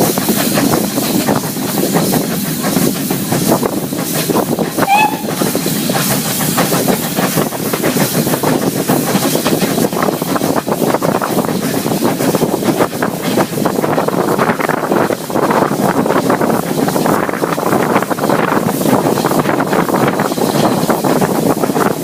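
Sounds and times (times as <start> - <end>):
steam hiss: 0.0 - 22.0
train rail clatter: 0.0 - 22.0.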